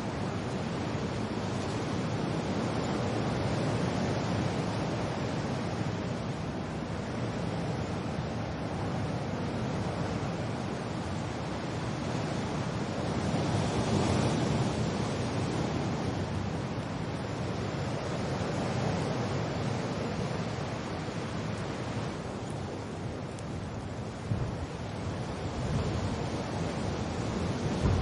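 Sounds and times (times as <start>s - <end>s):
wind and rain rushing: 0.0s - 28.0s.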